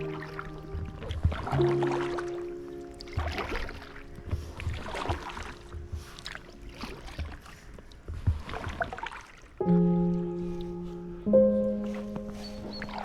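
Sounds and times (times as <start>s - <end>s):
faint musical tones: 0.0s - 8.6s, 9.6s - 13.0s
paddle splashing in water: 0.0s - 9.6s, 11.6s - 13.0s.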